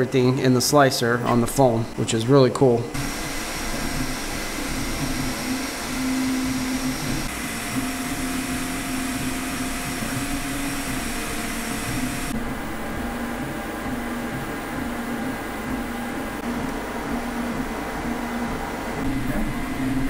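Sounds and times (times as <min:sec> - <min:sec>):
cooling fans rushing: 0:00.0 - 0:20.0
stepper motors whining: 0:02.9 - 0:20.0.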